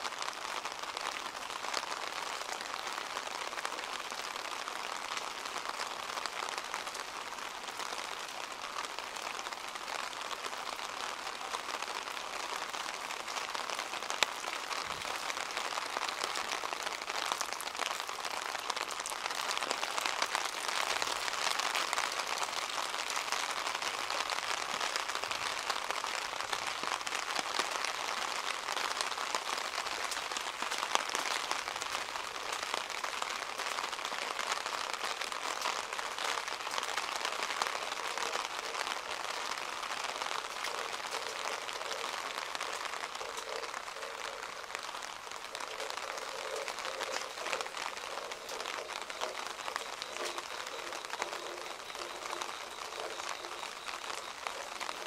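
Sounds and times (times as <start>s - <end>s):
raindrops pattering on hard surfaces: 0.0s - 55.0s
steady rain falling: 0.0s - 55.0s.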